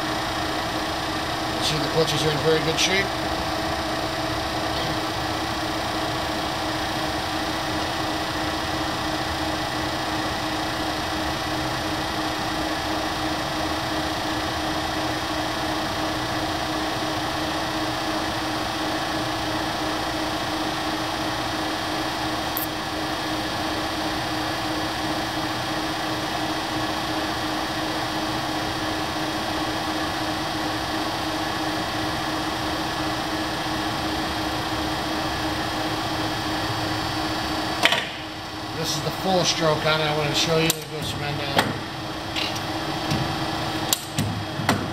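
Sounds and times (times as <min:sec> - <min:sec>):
lathe running: 0:00.0 - 0:44.9.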